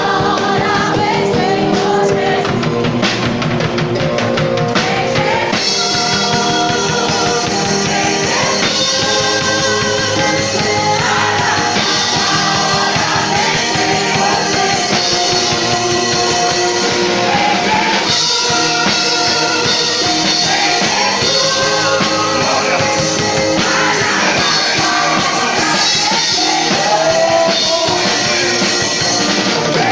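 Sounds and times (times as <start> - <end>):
rock music with singing: 0.0 - 29.9.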